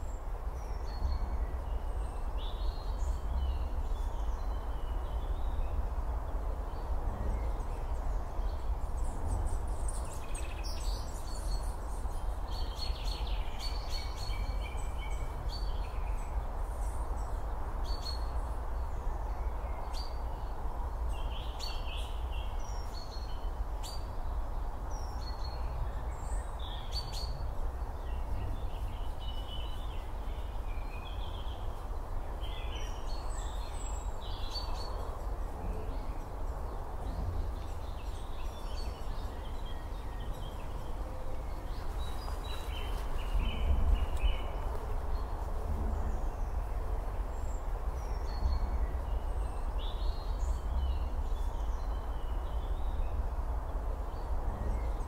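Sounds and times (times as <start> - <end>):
low outdoor rumble and hiss: 0.0 - 55.0
small birds chirping: 0.0 - 55.0.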